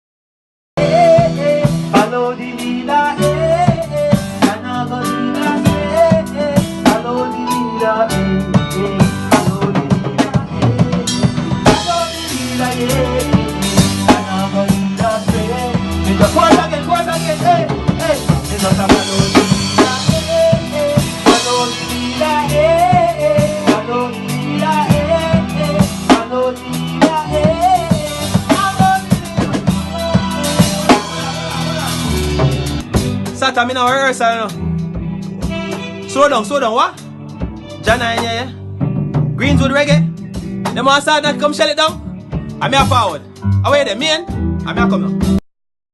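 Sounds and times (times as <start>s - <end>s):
drum kit: 0.8s - 45.4s
heavy bass: 0.8s - 45.4s
reggae music: 0.8s - 45.4s.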